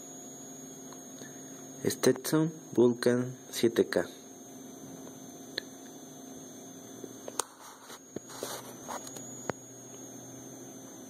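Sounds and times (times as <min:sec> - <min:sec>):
electrical mains hum: 0:00.0 - 0:11.0
thin high whine: 0:00.0 - 0:11.0.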